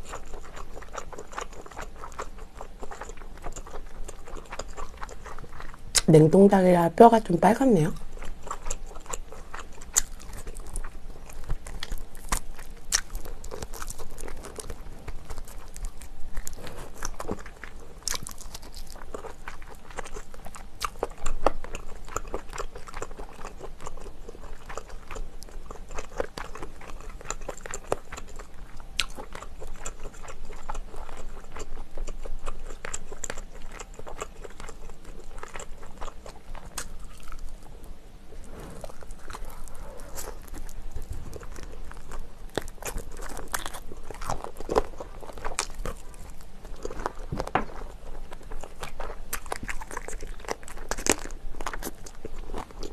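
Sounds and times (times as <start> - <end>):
close chewing and mouth smacks: 0.0 - 6.1, 7.8 - 52.9.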